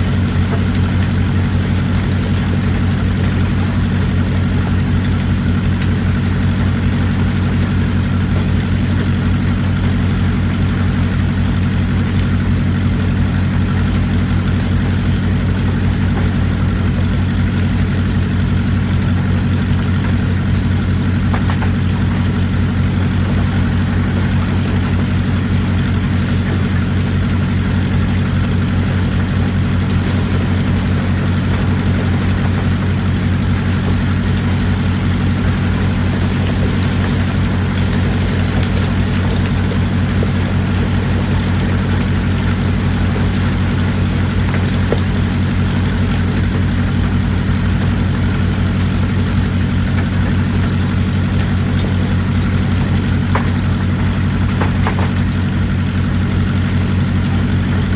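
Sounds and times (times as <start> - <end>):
diesel engine idling: 0.0 - 57.9
running water hiss: 0.0 - 57.9.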